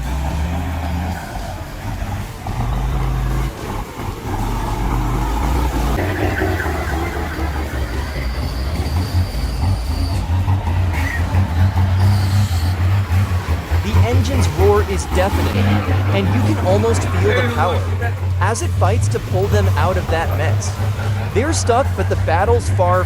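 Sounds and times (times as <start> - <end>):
truck engine straining: 0.0 - 23.0.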